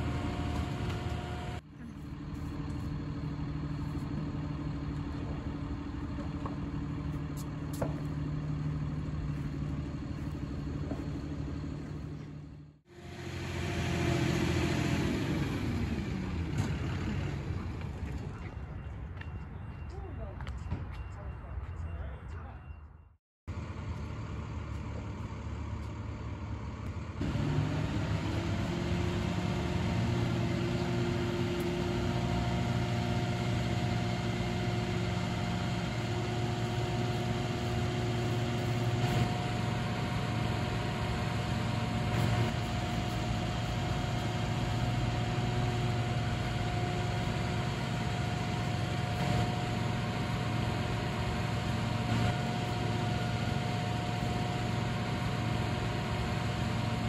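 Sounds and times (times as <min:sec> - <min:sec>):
truck engine running: 0:00.0 - 0:21.1, 0:23.5 - 0:57.0.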